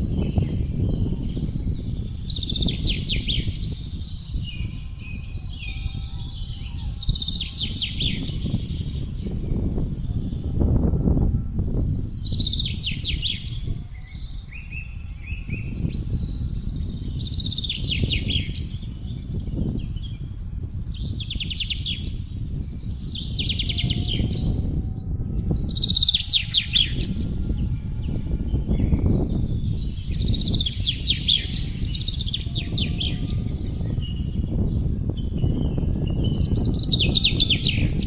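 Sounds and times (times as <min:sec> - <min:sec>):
songbird trilling: 0:00.0 - 0:38.0
wind gusting: 0:00.0 - 0:38.0.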